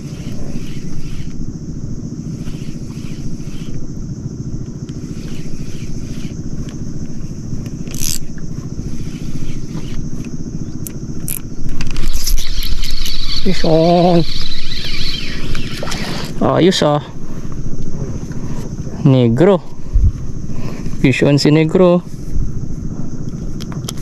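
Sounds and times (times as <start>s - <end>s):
small boat engine running: 0.0s - 24.0s.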